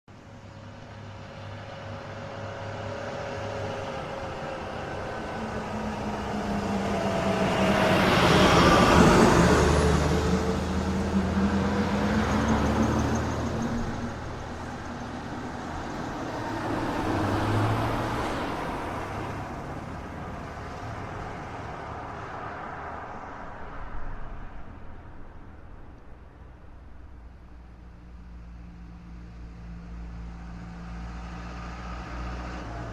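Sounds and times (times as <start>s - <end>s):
cars passing on asphalt: 0.1s - 32.9s.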